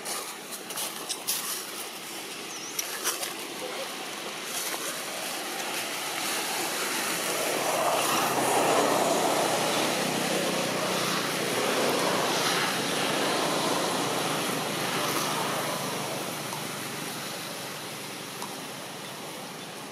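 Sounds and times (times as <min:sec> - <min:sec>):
distant engine drone: 0:03.5 - 0:19.9.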